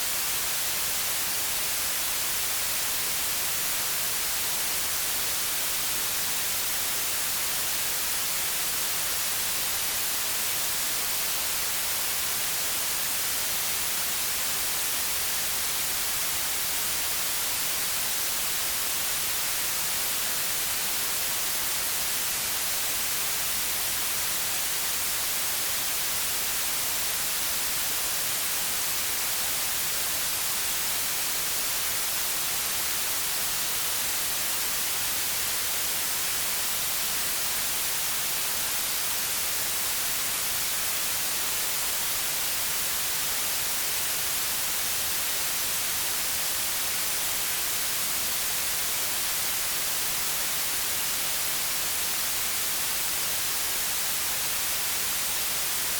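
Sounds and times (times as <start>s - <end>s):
steady white noise hiss: 0.0s - 55.9s.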